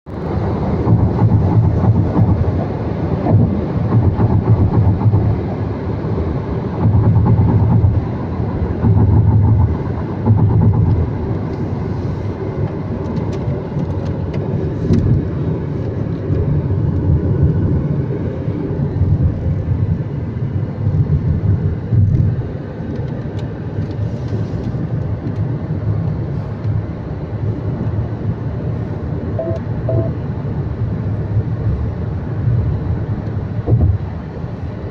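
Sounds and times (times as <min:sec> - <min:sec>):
car engine and road noise: 0:00.1 - 0:34.9.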